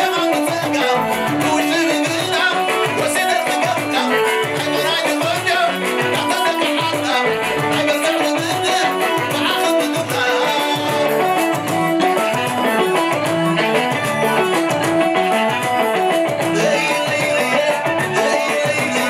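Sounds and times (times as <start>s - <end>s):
plucked-string dance music: 0.0s - 19.0s.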